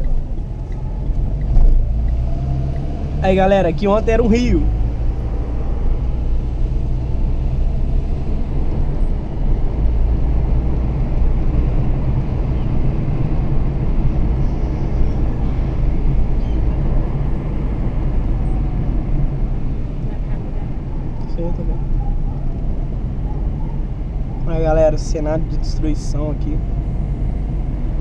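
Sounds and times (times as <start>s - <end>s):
car interior engine and tyre rumble: 0.0s - 28.0s.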